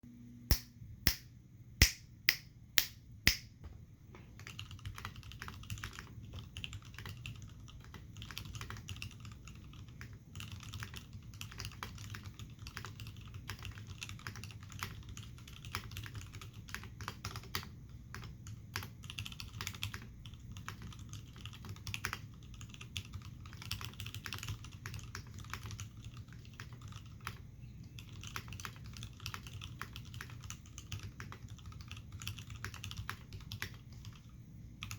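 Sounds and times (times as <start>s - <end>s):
mechanical keyboard typing: 4.4s - 34.9s.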